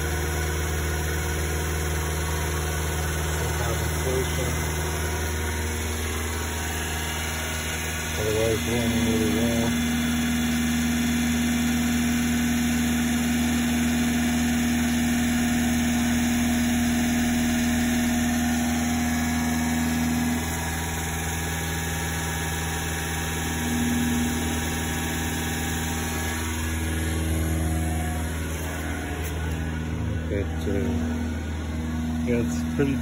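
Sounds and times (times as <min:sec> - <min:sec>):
truck engine fast idle: 0:00.0 - 0:33.0.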